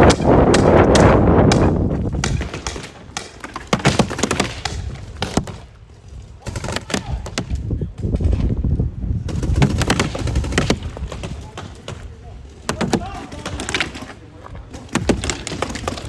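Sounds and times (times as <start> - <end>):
paintball markers firing: 0.0 - 5.8, 6.4 - 8.4, 9.3 - 16.0.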